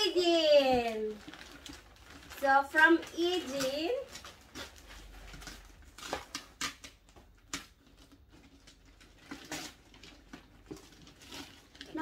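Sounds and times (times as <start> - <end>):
wrapping paper crinkling: 0.0 - 12.0.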